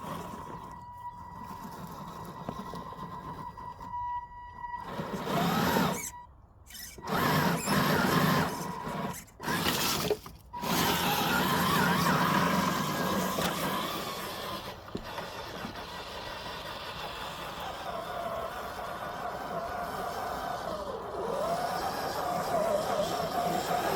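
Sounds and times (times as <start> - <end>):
electric motor and gearbox whining: 0.0 - 23.9
tyres on forest ground: 0.0 - 23.9.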